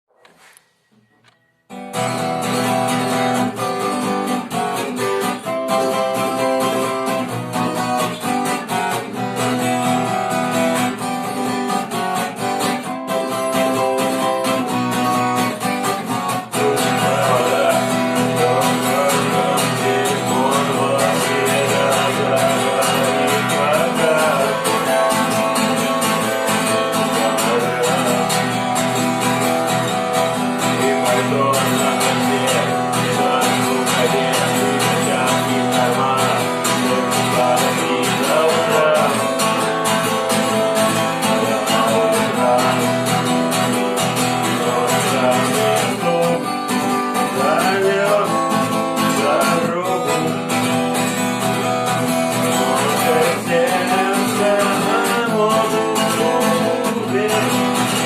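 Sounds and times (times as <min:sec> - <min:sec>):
guitar music: 0:00.1 - 0:58.0.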